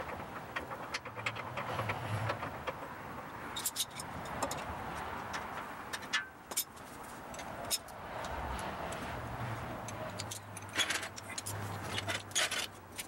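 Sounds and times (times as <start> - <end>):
metal clinks and rattles: 0.0 - 8.0, 9.8 - 13.0.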